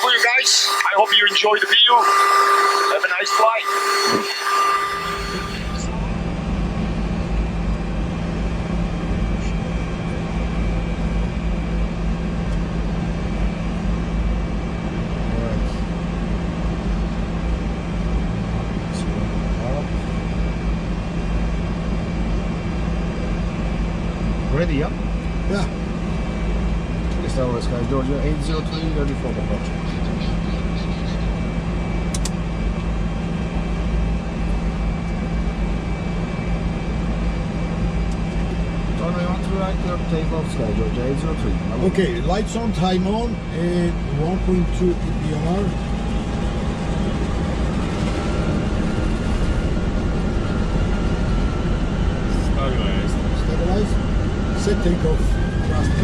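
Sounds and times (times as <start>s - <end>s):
aircraft engines rumbling: 0.0s - 4.6s, 5.3s - 56.0s.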